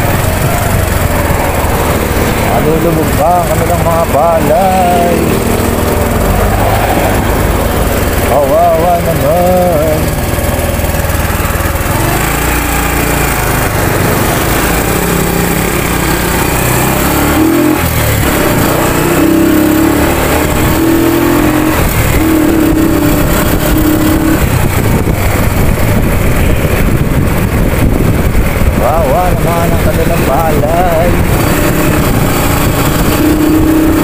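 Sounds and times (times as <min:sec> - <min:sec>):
wind roaring across microphone: 0:00.0 - 0:09.2, 0:09.8 - 0:34.0
motorcycle engine running: 0:00.0 - 0:34.0.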